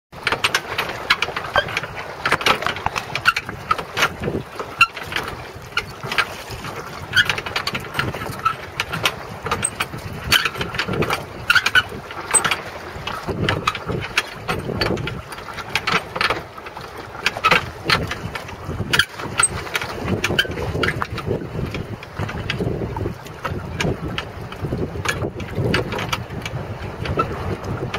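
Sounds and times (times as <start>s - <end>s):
water slapping against jetty: 0.1s - 27.9s
wind buffeting microphone: 0.2s - 27.9s.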